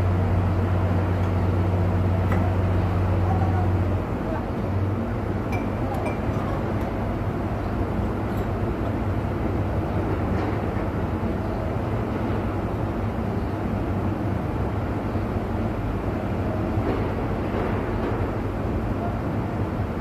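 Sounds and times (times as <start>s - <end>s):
large engine droning: 0.0s - 20.0s.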